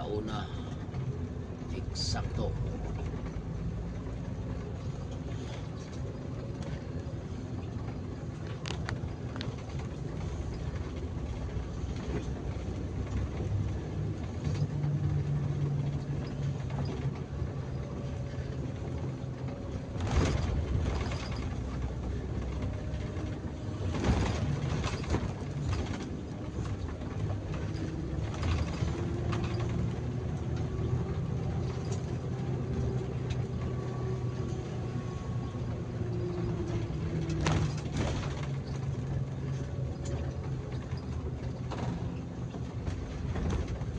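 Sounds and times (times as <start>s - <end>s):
bus engine running: 0.0s - 43.9s
road noise: 0.0s - 43.9s.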